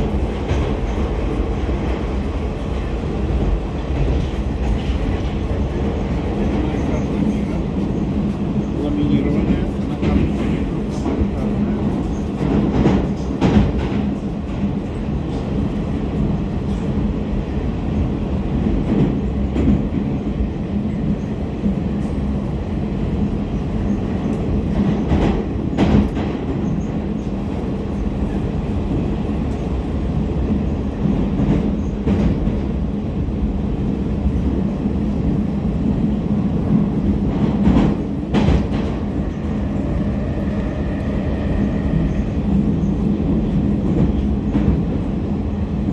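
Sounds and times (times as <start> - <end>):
rumble of train wheels: 0.0 - 45.9.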